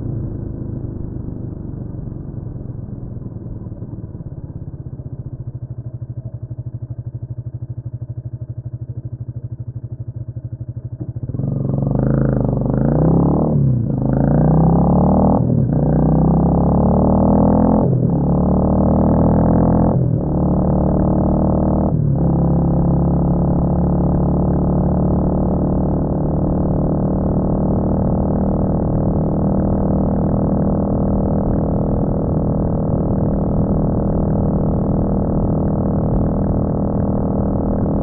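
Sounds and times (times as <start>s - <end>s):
motorcycle engine idling and accelerating: 0.0s - 38.0s.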